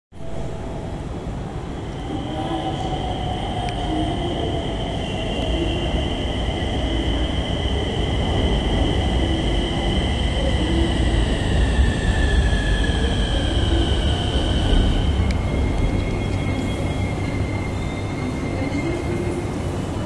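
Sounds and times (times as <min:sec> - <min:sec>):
high steady whines: 0:00.2 - 0:20.0
train rumble: 0:00.2 - 0:20.0.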